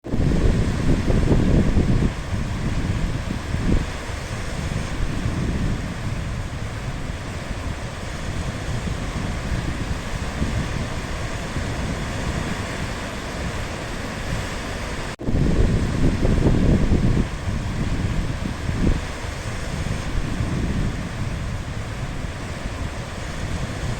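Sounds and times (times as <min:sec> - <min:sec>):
sea surf washing: 0:00.0 - 0:23.9
wind rumbling on microphone: 0:00.0 - 0:23.9.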